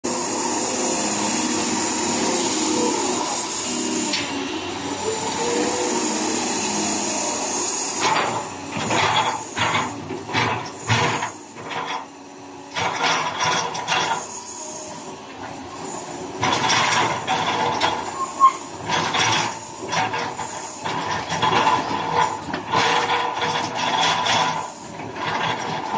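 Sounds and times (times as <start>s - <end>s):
excavator engine and hydraulics: 0.0s - 25.9s.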